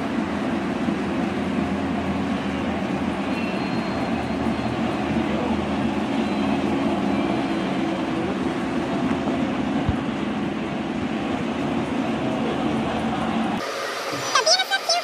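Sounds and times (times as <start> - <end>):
model trains running on track: 0.0 - 15.0.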